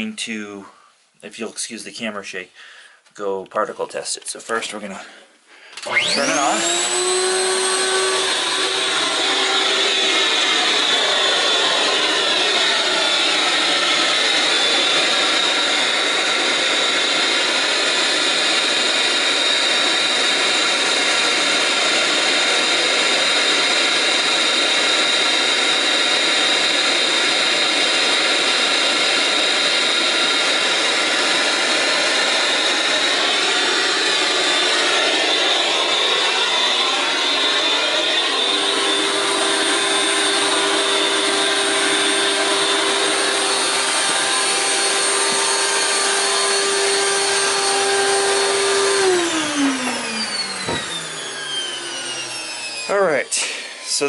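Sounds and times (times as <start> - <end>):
vacuum unit air rush and whine: 4.6 - 54.0.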